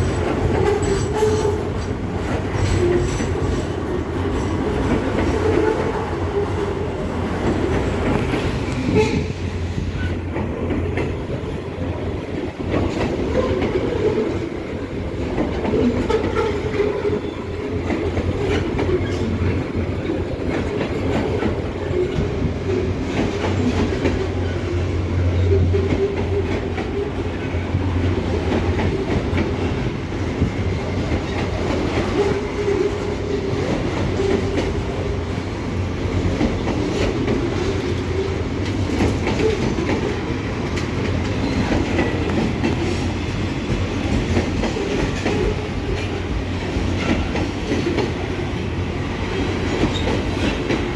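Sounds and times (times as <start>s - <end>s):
freight train cars rumbling: 0.0s - 50.9s
wheels clicking over rail joints: 9.8s - 50.9s.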